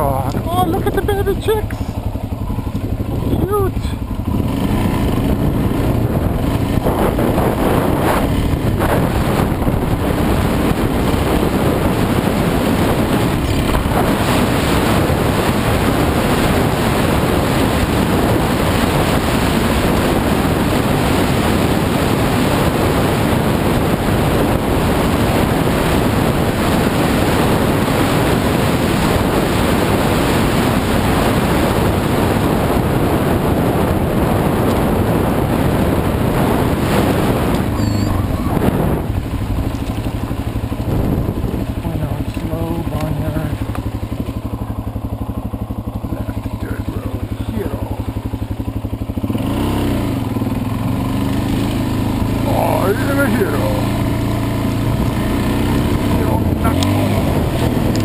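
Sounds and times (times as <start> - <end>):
dirt bike engine running: 0.0 - 58.0
wind rushing over microphone: 0.0 - 58.0.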